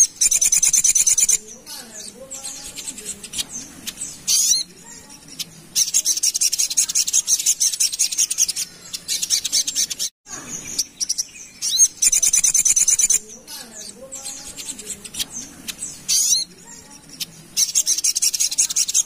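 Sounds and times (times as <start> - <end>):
bird high chattering notes: 0.0 - 19.0.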